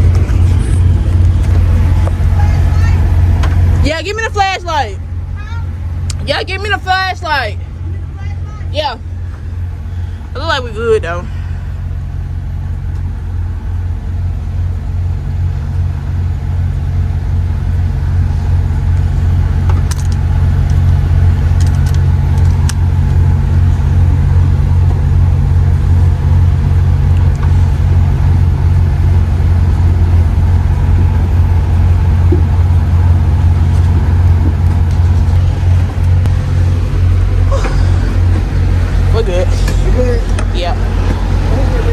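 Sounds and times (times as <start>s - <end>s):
diesel truck engine rumbling: 0.0s - 41.9s.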